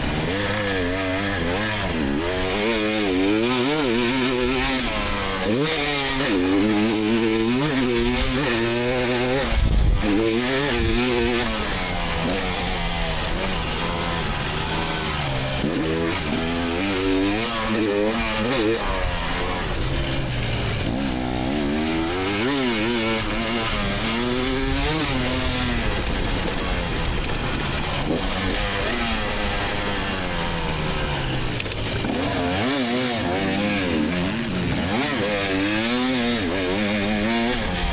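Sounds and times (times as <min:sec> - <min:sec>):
two-stroke engine revving: 0:00.0 - 0:37.9.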